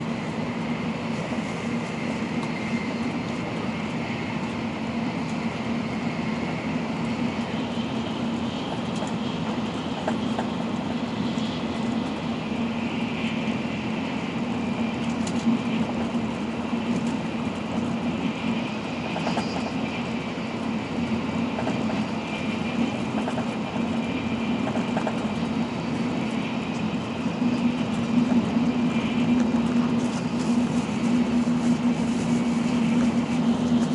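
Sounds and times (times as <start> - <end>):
train cabin rumble: 0.0 - 33.9.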